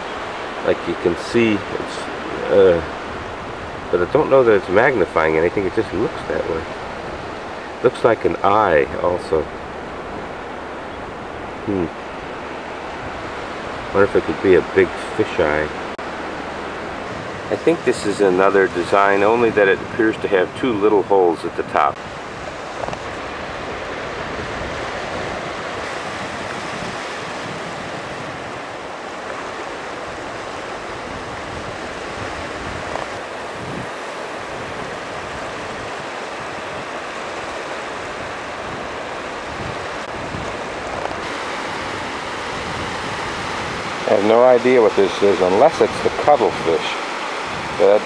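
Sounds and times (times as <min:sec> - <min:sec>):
ocean surf on beach: 0:00.0 - 0:48.0.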